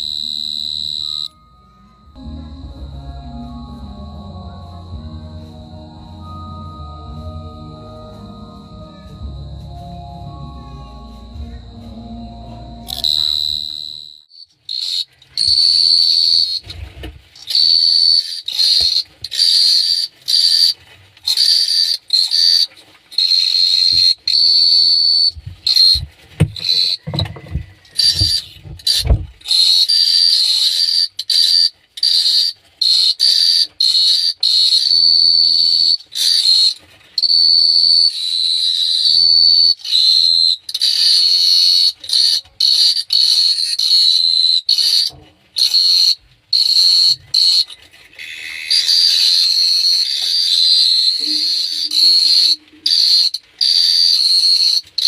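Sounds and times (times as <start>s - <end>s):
cricket chirping: 0.0s - 20.7s, 21.3s - 47.8s, 48.4s - 55.0s.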